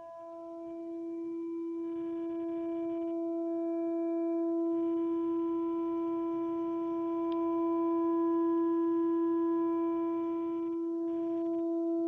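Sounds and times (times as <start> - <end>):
steady droning tone: 0.0 - 12.0.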